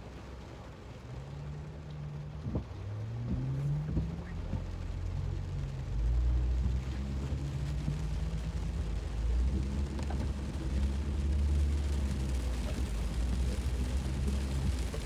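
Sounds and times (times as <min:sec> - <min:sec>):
car engine and tyre drone: 0:00.0 - 0:15.0
rain pattering on car: 0:00.0 - 0:15.0.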